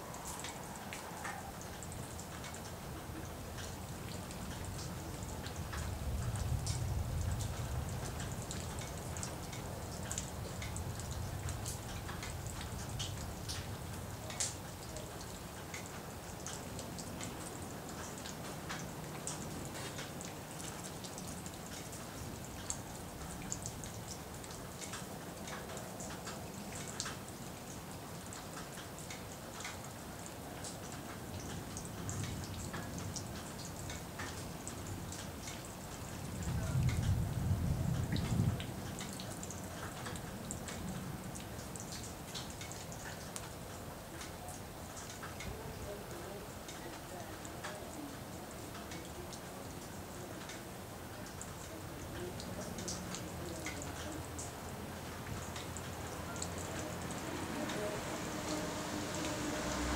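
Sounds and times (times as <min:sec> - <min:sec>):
drips ticking on a surface: 0:00.0 - 0:59.9
rain falling: 0:00.0 - 0:59.9.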